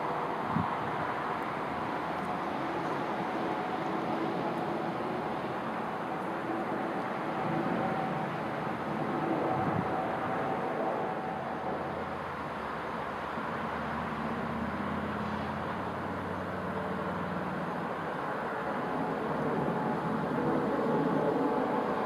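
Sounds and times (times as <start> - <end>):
electric train low hum: 0.0 - 15.9, 17.8 - 22.0
train whine: 0.0 - 15.9, 17.8 - 22.0
train running noise: 0.0 - 22.0.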